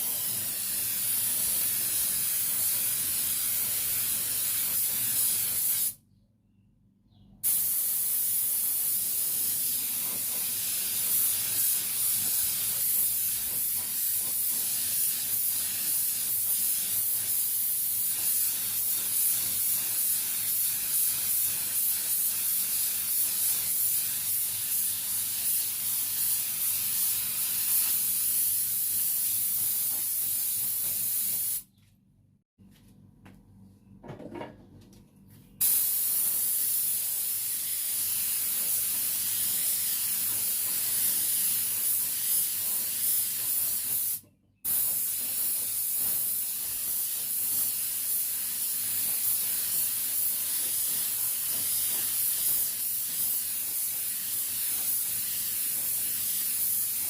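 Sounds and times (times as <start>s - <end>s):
spray paint hissing: 0.0s - 6.0s, 7.4s - 31.6s, 35.6s - 57.0s.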